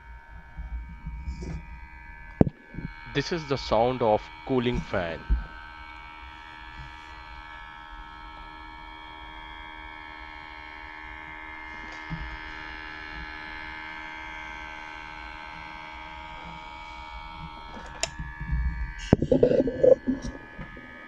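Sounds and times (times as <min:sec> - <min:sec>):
laptop cooling fan buzzing hum: 0:00.0 - 0:21.0.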